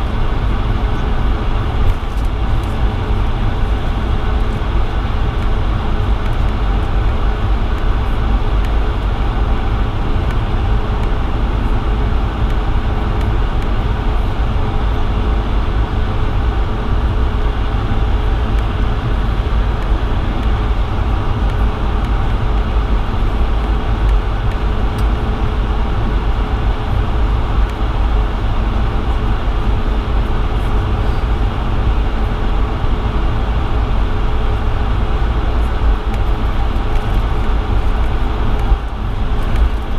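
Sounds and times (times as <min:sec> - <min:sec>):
jet engines idling deep rumble: 0:00.0 - 0:39.9.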